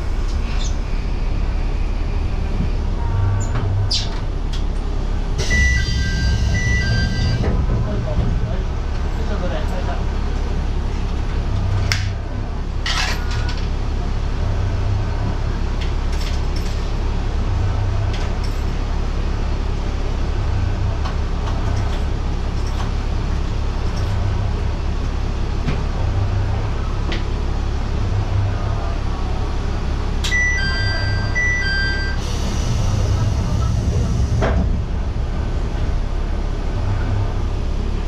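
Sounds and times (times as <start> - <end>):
railcar engine and running rumble: 0.0 - 38.0.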